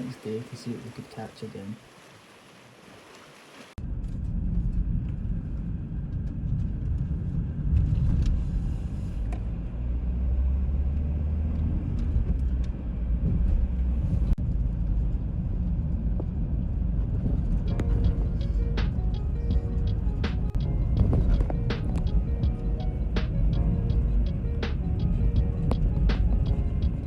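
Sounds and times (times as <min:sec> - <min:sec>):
moving vehicle rumble: 0:03.8 - 0:27.0.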